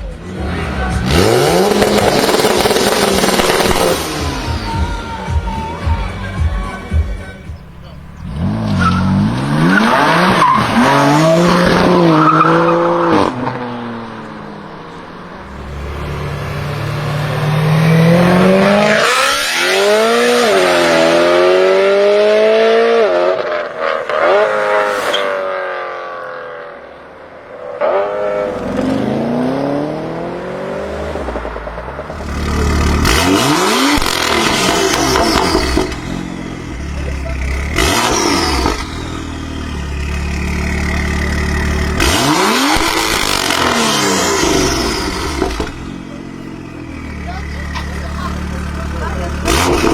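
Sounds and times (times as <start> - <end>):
car engines revving hard: 0.0 - 49.9.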